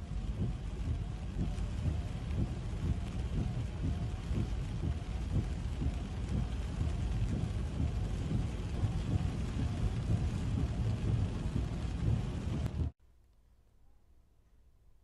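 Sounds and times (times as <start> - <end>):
heavy rain hissing: 0.0 - 12.9.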